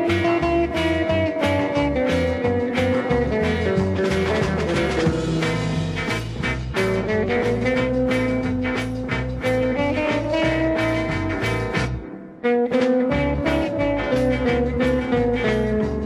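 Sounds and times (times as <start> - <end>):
rock band music: 0.0 - 16.0.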